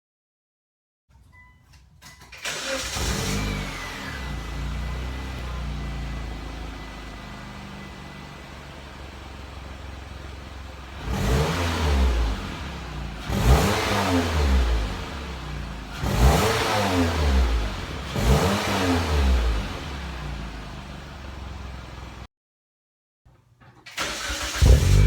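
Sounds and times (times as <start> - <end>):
car engine idling and revving: 2.3 - 22.3, 24.0 - 25.0.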